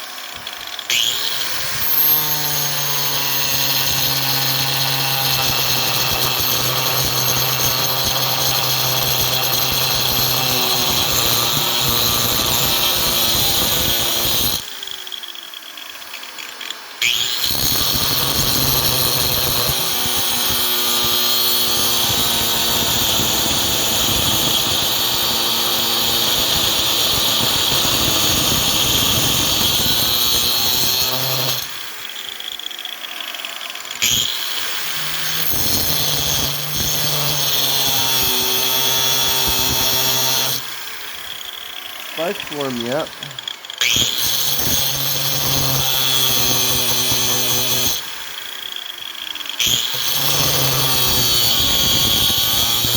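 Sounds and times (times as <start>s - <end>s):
angle grinder cutting steel pipe: 0.0s - 52.9s.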